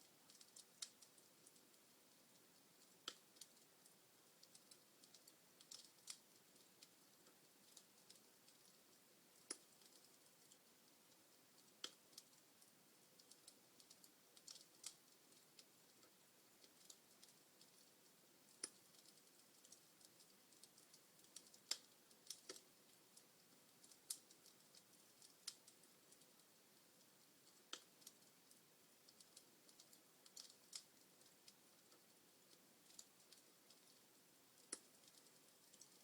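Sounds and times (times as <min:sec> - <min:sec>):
log fire crackling: 0:00.0 - 0:36.0.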